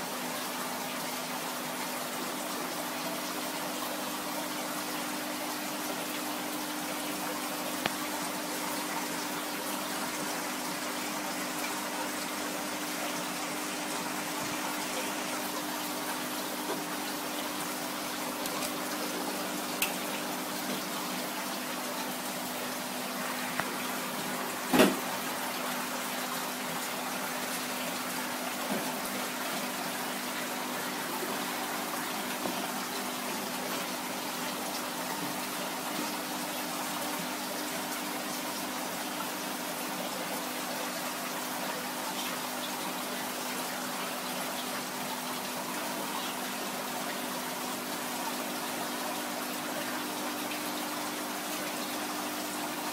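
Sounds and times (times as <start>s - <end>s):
water bubbling in aquarium: 0.0s - 52.9s.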